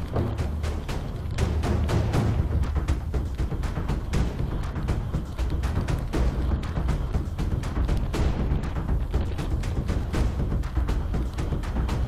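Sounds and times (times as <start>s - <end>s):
dramatic background music: 0.0s - 12.0s
low rumble: 0.0s - 12.0s.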